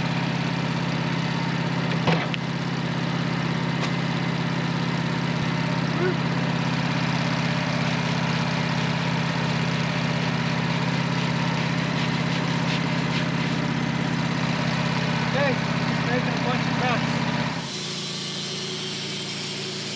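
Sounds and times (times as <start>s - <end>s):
sawmill engine droning: 0.0s - 19.9s.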